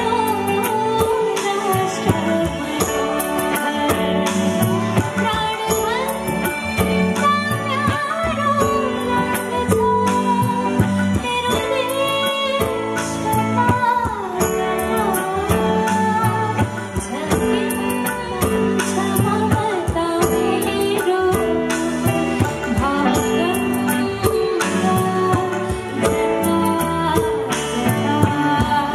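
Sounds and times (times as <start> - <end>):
bass guitar: 0.0 - 28.9
tabla: 0.0 - 28.9
woman singing: 0.0 - 28.9.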